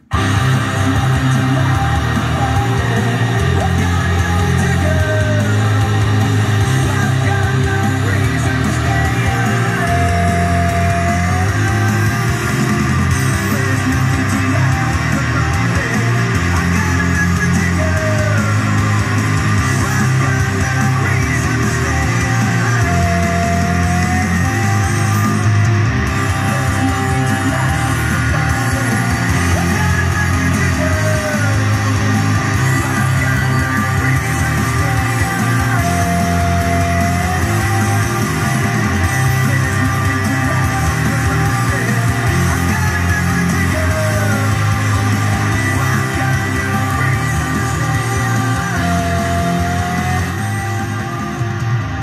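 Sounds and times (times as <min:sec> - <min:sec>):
heavy rock music: 0:00.0 - 0:52.0.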